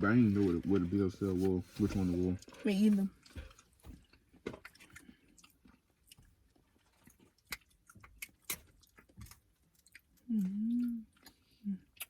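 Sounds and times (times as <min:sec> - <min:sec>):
chewing and mouth sounds: 0:02.1 - 0:12.0.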